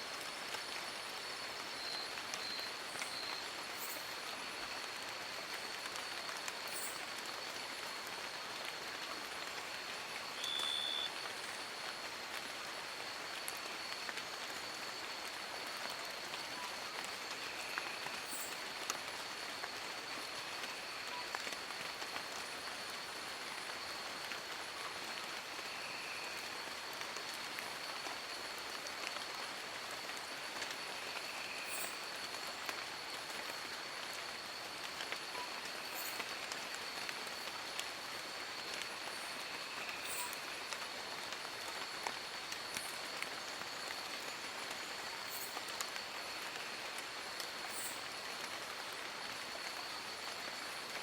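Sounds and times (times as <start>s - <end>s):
rain falling on leaves: 0.0s - 51.0s.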